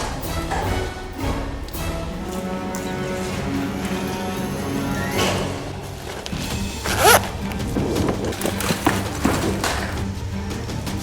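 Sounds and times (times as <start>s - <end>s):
music with sustained low notes: 0.0s - 11.0s.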